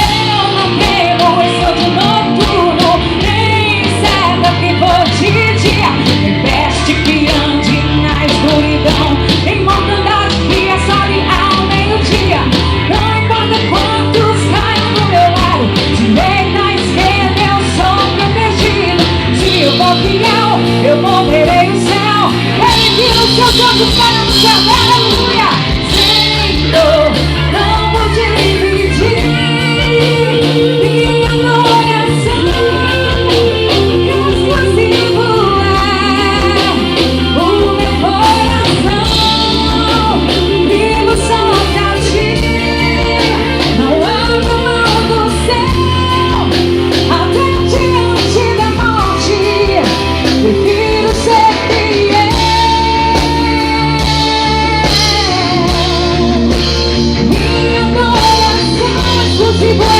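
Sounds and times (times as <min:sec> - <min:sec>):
live band playing gospel: 0:00.0 - 0:59.9
woman singing: 0:00.0 - 0:59.9.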